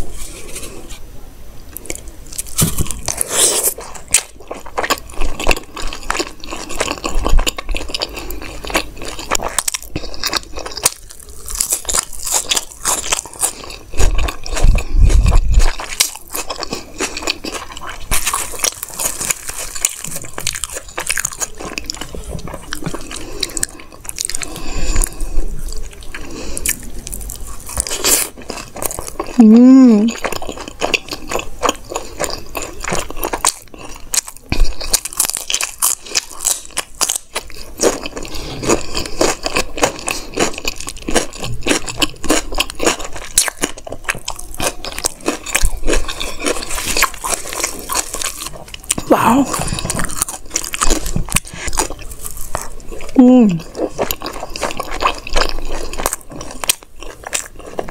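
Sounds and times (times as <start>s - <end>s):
chewing with crisp crunches: 1.7s - 57.9s.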